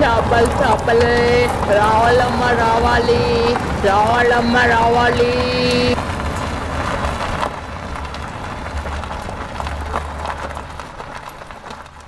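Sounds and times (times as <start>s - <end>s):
wooden toy cart rolling on concrete: 0.0s - 12.0s.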